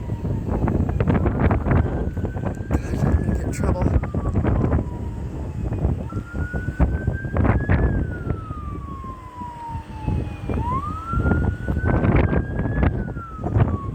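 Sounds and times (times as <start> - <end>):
siren wailing: 0.0 - 13.9
wind rumbling on microphone: 0.0 - 13.9.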